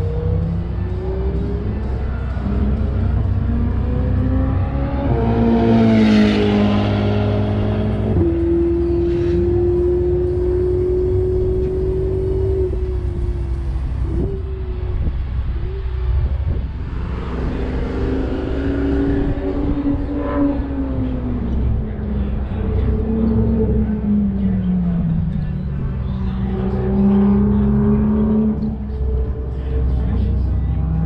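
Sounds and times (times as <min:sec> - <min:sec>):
sports car engines: 0:00.0 - 0:31.0.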